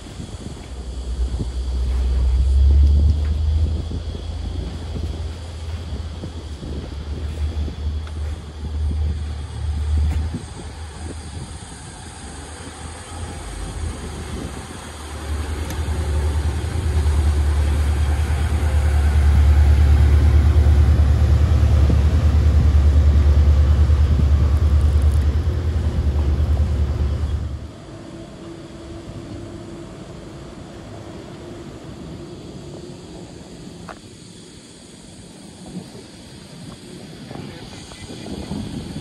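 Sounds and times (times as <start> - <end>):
ferry engines rumbling: 0.0 - 39.0
steady hum: 0.0 - 39.0.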